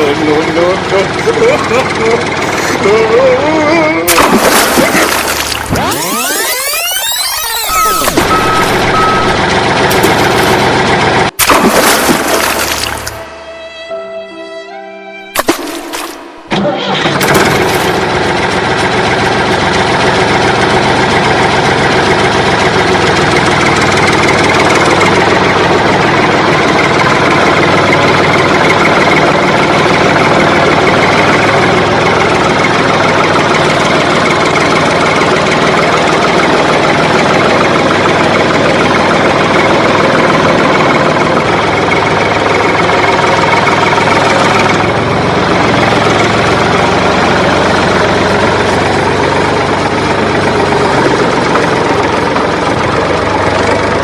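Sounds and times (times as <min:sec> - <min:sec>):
vehicle engine idling: 0:00.0 - 0:11.4, 0:16.2 - 0:54.0.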